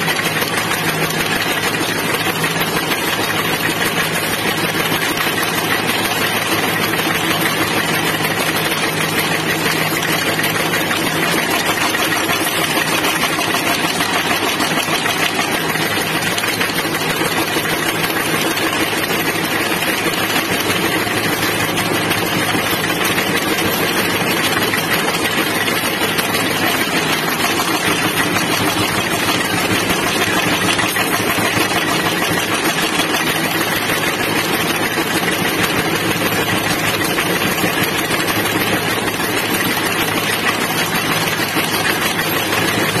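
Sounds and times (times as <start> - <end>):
punching press clattering: 0.0 - 43.0.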